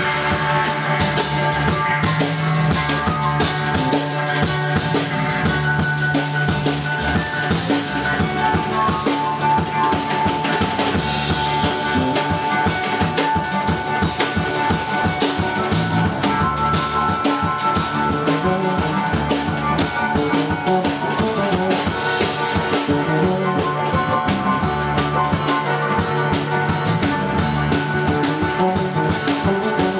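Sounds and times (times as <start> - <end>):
drum kit: 0.0 - 29.9
rock band playing: 0.0 - 29.9.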